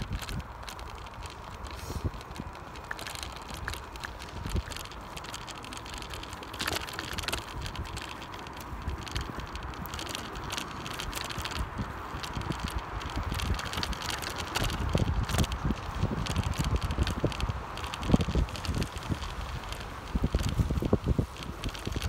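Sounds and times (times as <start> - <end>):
bicycle rattling and clicking: 0.0 - 22.0
wind rumbling on microphone: 0.0 - 22.0.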